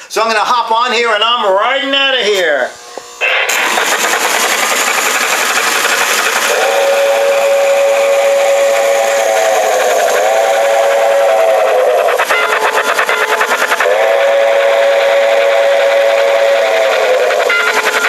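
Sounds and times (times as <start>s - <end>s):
electronic train whistle: 2.7s - 18.0s
steam hiss with chuffing: 3.2s - 18.0s.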